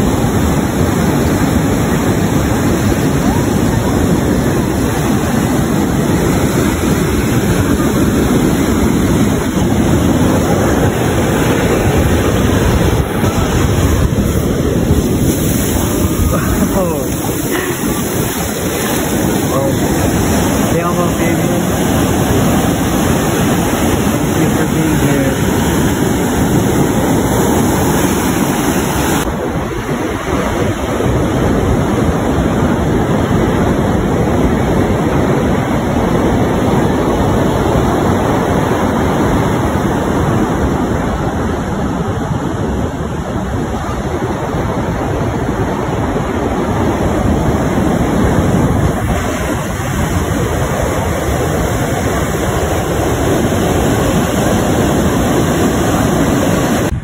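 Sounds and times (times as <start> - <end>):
ocean surf breaking: 0.0 - 57.0
wind noise on microphone: 0.0 - 57.0.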